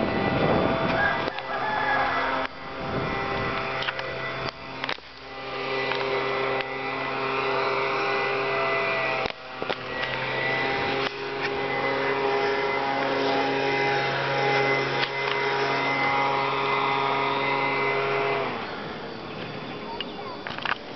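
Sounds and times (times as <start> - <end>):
engine running steadily: 0.0 - 20.9.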